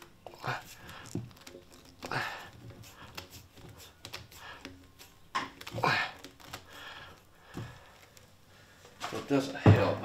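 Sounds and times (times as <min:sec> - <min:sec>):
hose rubbing and squeaking on fitting: 0:00.0 - 0:08.4.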